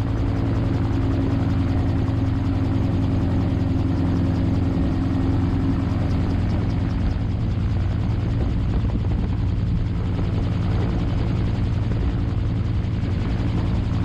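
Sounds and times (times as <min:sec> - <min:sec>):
aircraft engine and propeller: 0:00.0 - 0:14.0.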